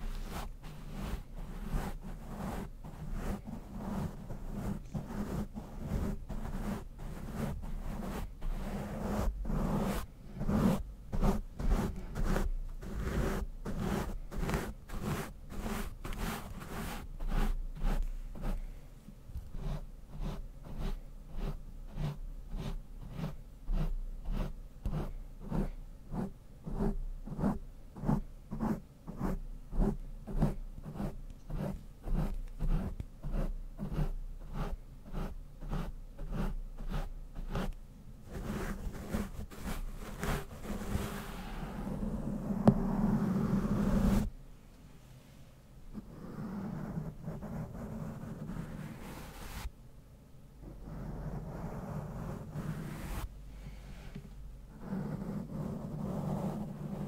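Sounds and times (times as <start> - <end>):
brush scratching microphone grille: 0.0 - 18.7, 19.4 - 44.3, 46.0 - 49.7, 50.7 - 53.3, 54.7 - 57.0.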